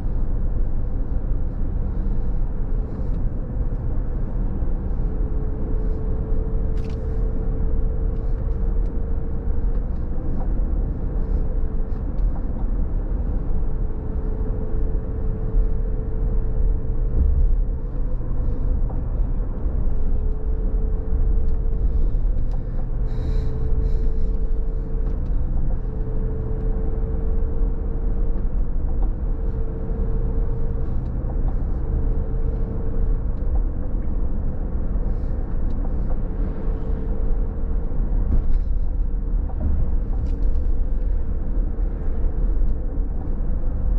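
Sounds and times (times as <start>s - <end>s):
faint steady hum: 0.0s - 43.9s.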